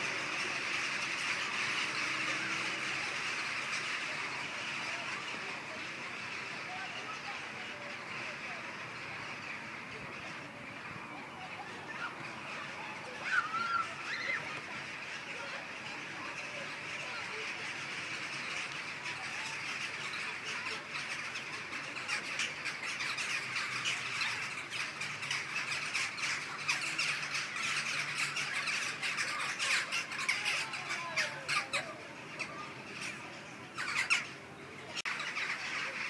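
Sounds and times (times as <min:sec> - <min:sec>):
flock of birds squawking: 0:00.0 - 0:36.0.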